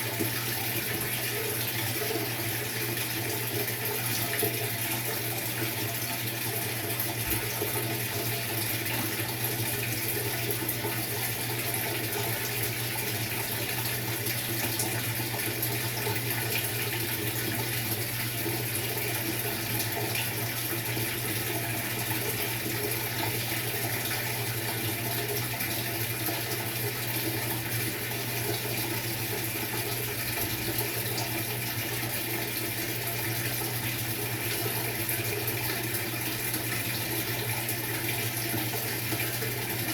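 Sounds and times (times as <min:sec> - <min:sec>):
water rushing into washing machine: 0:00.0 - 0:39.9.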